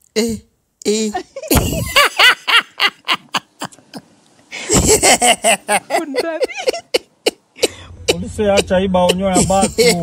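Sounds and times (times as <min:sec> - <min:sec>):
woman laughing: 0:01.2 - 0:07.5, 0:08.1 - 0:10.0.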